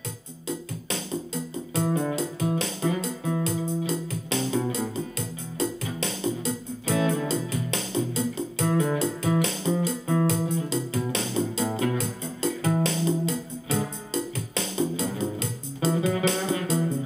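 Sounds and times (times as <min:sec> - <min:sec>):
acoustic guitar music: 0:01.5 - 0:17.0.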